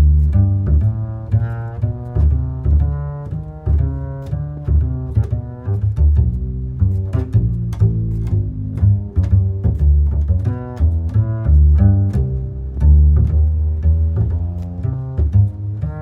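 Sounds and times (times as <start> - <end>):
low string music: 0.0 - 16.0.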